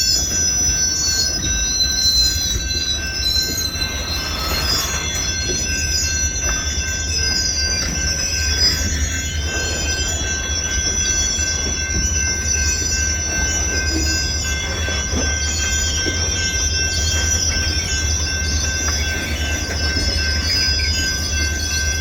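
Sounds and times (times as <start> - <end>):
freight train rumble: 0.0 - 22.0
steel wheels squealing on rails: 0.0 - 22.0.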